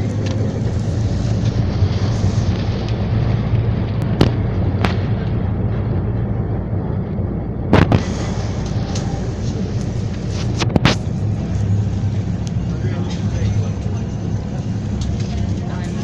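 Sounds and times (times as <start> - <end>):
boat engine rumbling: 0.0 - 16.0
water noise: 0.0 - 16.0.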